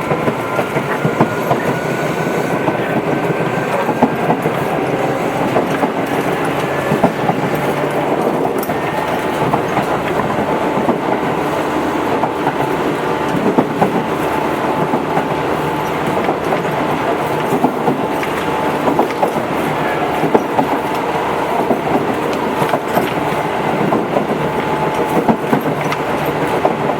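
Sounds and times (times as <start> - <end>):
train rumbling: 0.0 - 26.9
train wheels clicking over rail joints: 0.0 - 26.9.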